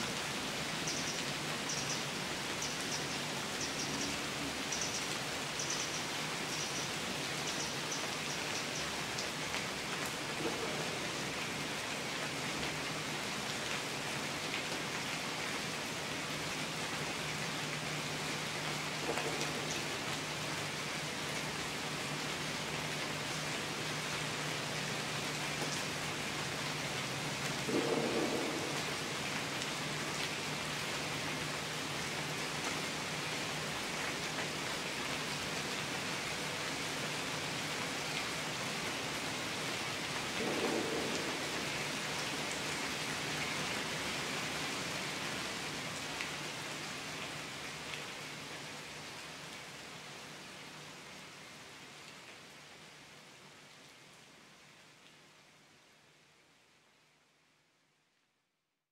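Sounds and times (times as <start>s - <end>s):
rain falling on foliage: 0.0s - 58.8s.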